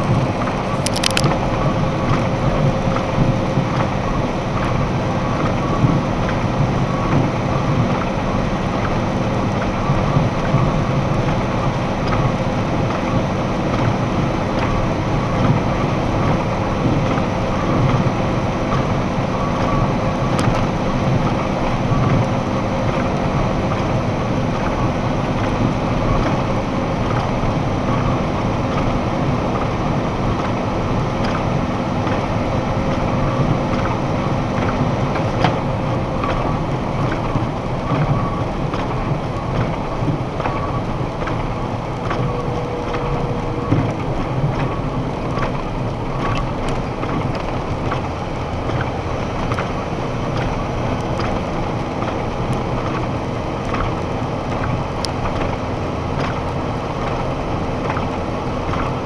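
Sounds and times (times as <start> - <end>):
truck road and engine noise: 0.0 - 59.0.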